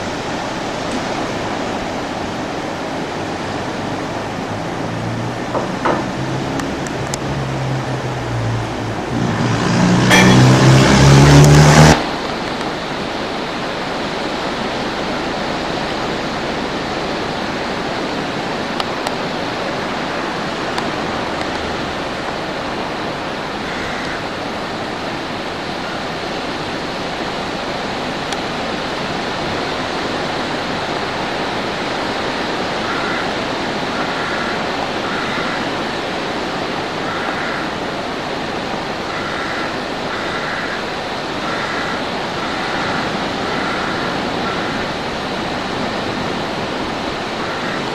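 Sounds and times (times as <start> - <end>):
sea surf on rocky shore: 0.0 - 47.9.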